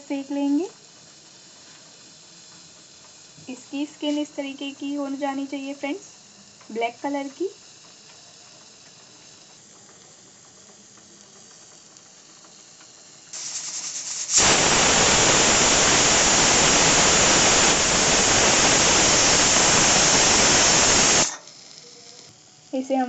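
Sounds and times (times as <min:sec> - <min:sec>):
pressure cooker whistling: 0:00.0 - 0:22.0.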